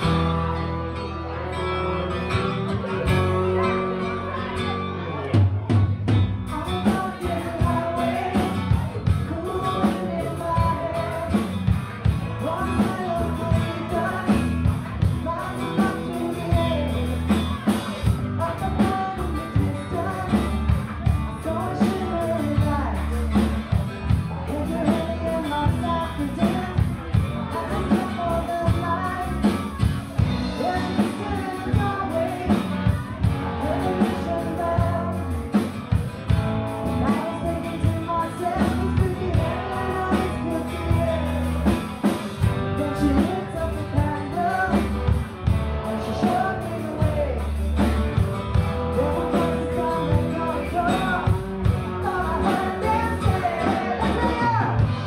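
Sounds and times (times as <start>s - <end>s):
live rock band: 0.0s - 55.0s.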